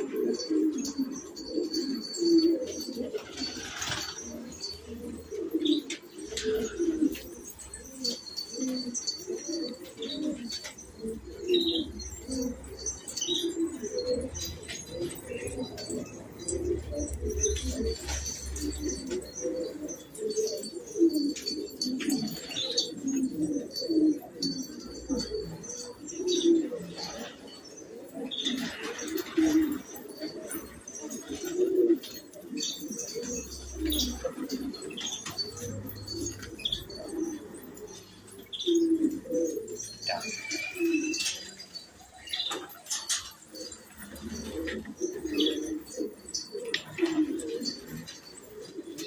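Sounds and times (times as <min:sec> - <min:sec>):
pigeons cooing: 0:00.0 - 0:49.0
small birds chirping: 0:00.0 - 0:49.0.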